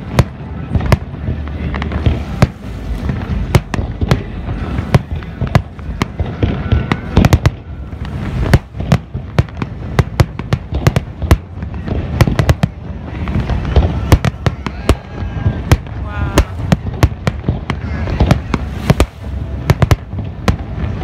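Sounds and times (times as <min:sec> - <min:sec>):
continuous low rumble: 0:00.0 - 0:21.0.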